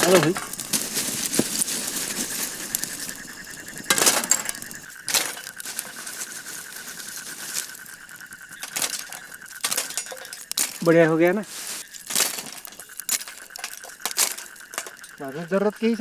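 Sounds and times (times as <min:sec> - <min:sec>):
charcoal embers clinking: 0:00.0 - 0:16.0
high insect trill: 0:00.0 - 0:16.0.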